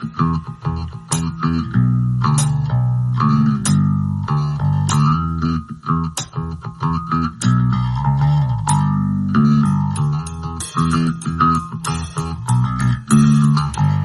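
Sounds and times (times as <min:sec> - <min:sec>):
plucked guitar and bass music: 0:00.0 - 0:14.0.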